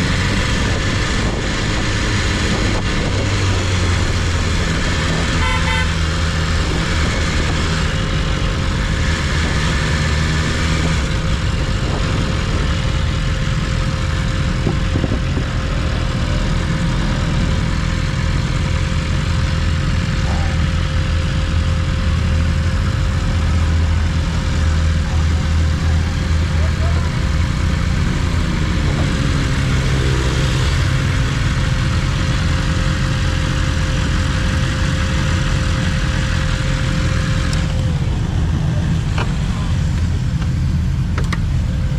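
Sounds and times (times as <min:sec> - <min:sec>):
motorcycle engine running steadily: 0:00.0 - 0:41.9
wind and road noise: 0:00.0 - 0:41.9.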